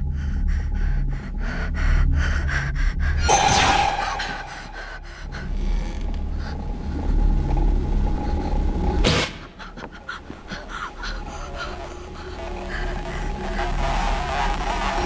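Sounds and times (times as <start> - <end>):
heavy panting breaths: 0.0 - 3.3, 4.2 - 14.6
low rumbling drone: 0.0 - 9.1, 9.7 - 15.0.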